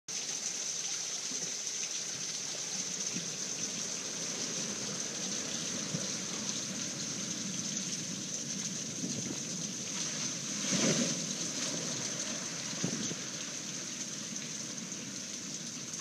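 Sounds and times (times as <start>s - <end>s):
water rushing through a sluice: 0.1s - 16.0s.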